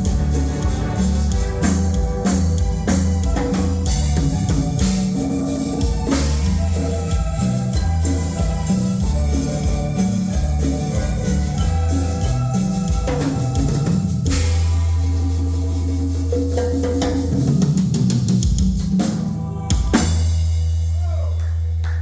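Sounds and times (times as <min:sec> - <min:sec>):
bass line: 0:00.0 - 0:22.0
drum kit: 0:00.0 - 0:22.0.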